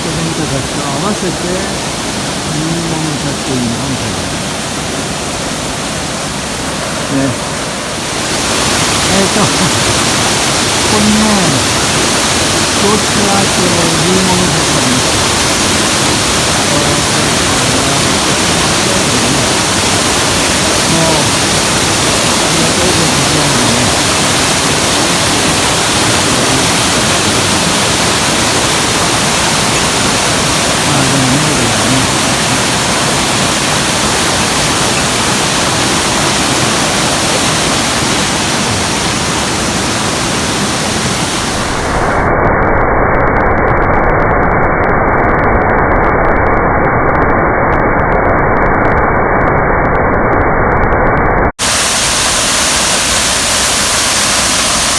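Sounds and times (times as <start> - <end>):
waterfall rushing: 0.0 - 42.4, 51.6 - 54.9.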